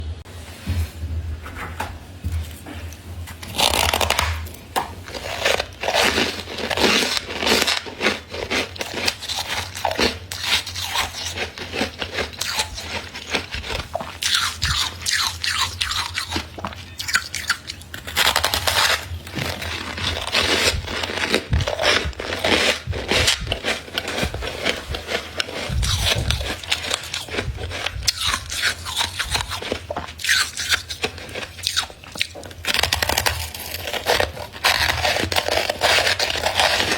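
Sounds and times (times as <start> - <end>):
frost crunching and scraping: 2.4 - 36.9.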